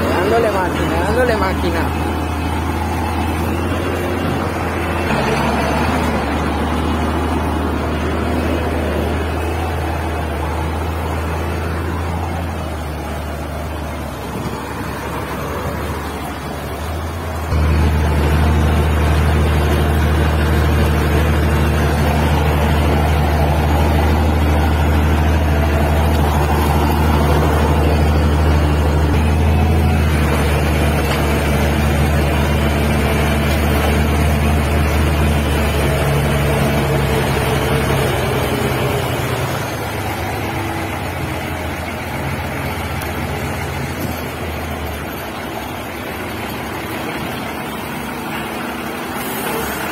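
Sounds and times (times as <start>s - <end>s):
heavy diesel engine under load: 0.0s - 49.9s.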